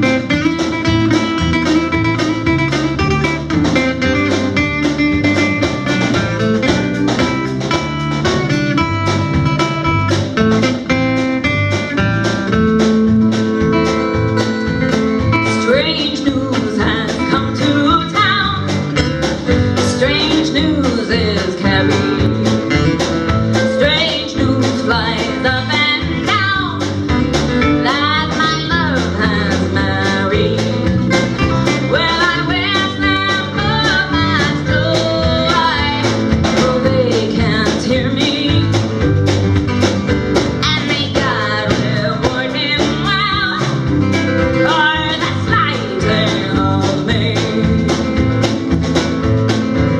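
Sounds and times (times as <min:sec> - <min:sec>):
live country-blues band: 0:00.0 - 0:49.9
sliding lead guitar melody: 0:00.0 - 0:49.9.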